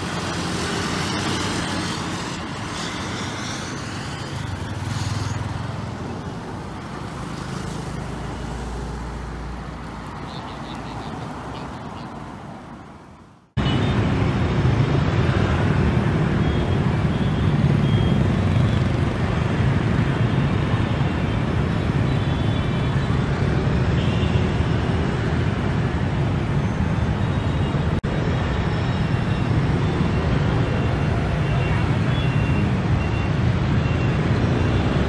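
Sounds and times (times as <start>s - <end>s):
motorbikes and cars passing: 0.0s - 35.0s.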